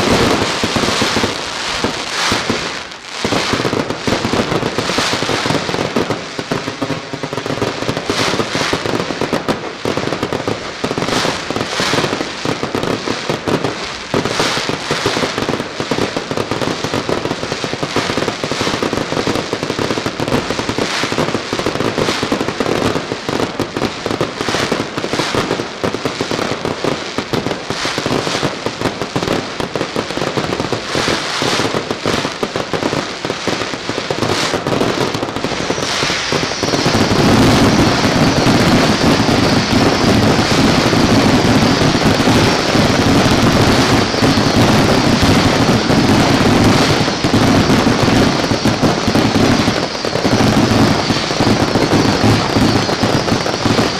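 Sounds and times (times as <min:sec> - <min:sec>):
fireworks bangs and crackling: 0:00.0 - 0:53.9
loud fireworks reports: 0:00.0 - 0:53.9.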